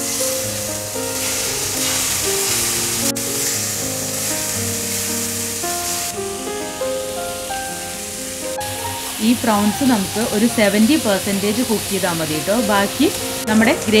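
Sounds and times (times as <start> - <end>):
background music of held notes: 0.0 - 14.0
prawns sizzling in butter: 0.0 - 14.0.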